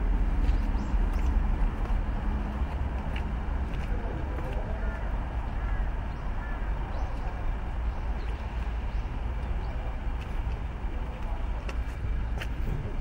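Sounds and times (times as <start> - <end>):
faint distant sounds: 0.0 - 13.0
low outdoor rumble: 0.0 - 13.0.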